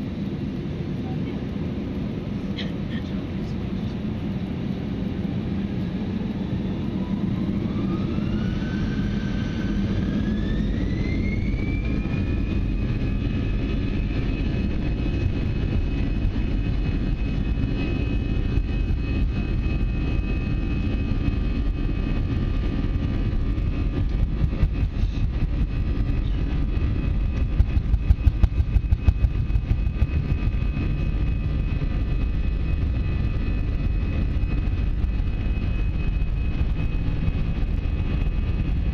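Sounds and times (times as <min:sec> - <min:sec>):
jet engines spooling up: 0:01.9 - 0:38.9.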